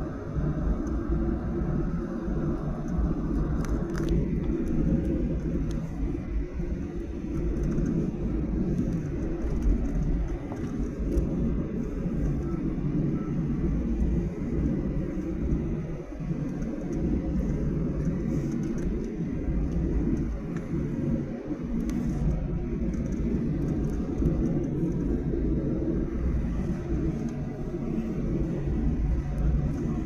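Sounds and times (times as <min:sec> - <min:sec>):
jet engines idling: 0:00.0 - 0:30.0
wheels rolling on taxiway: 0:00.0 - 0:30.0.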